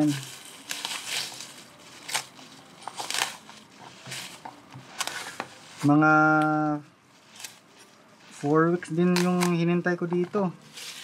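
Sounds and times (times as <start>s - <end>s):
plastic wrap crinkling: 0.0s - 5.9s, 7.1s - 11.0s.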